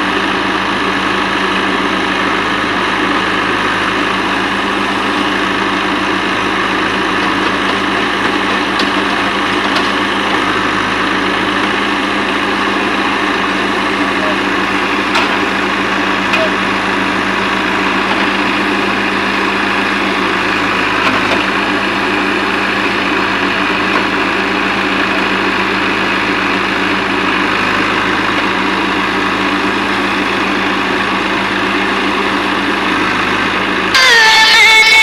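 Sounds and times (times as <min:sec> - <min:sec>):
diesel machinery engine running: 0:00.0 - 0:35.0.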